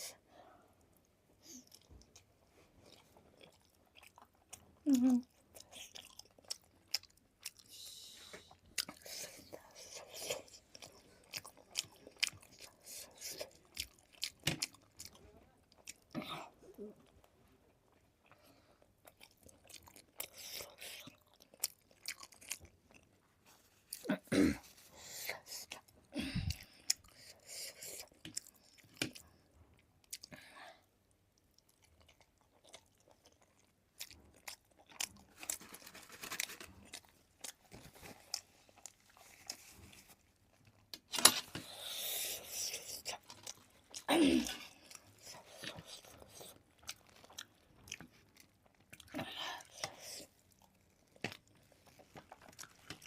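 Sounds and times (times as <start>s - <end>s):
chewing food: 0.9s - 24.2s, 25.0s - 30.4s, 31.0s - 53.0s.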